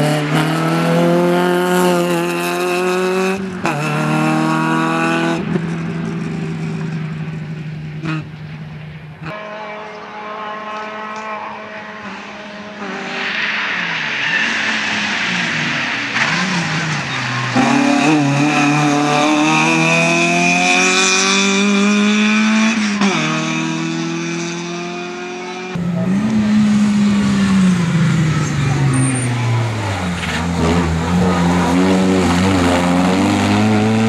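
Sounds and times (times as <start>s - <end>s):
rally car engine revving high: 0.0s - 7.2s, 9.2s - 34.0s.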